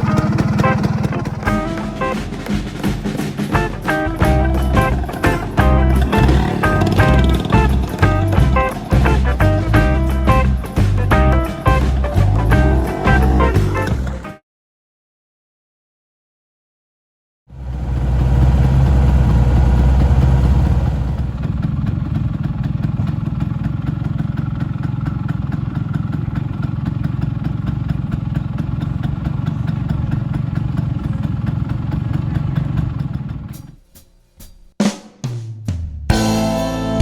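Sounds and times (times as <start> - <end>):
engine running with even pulsing: 0.0 - 14.4, 17.5 - 33.5.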